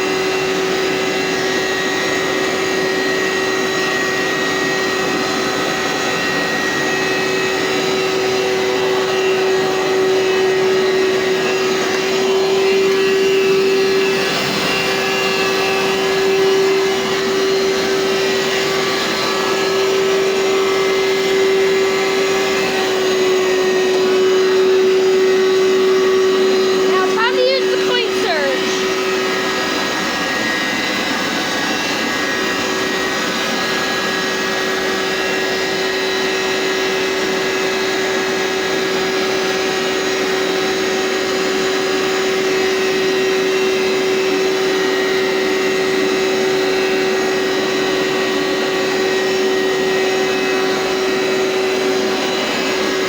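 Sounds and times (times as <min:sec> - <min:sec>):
carpet cleaner motor humming: 0:00.0 - 0:53.0.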